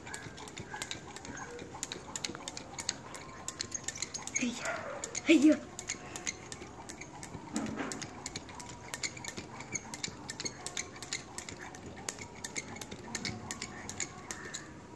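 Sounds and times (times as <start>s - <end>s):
skipping rope ticking on concrete: 0.0s - 14.9s.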